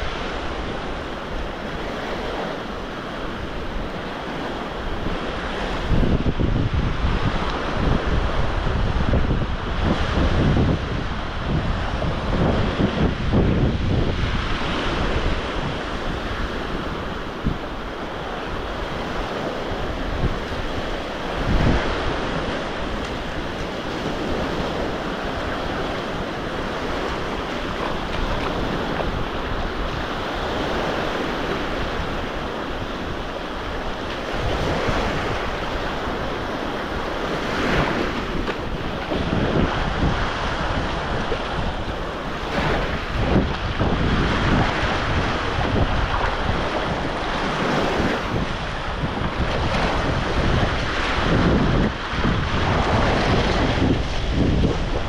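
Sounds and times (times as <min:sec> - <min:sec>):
sea waves breaking on beach: 0:00.0 - 0:55.0
wind buffeting microphone: 0:00.0 - 0:55.0.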